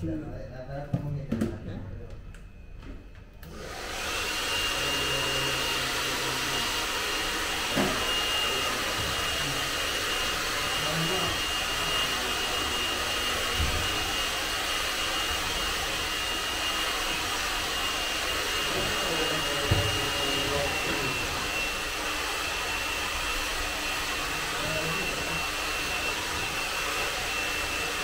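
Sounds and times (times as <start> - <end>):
hair dryer running: 3.4 - 28.0.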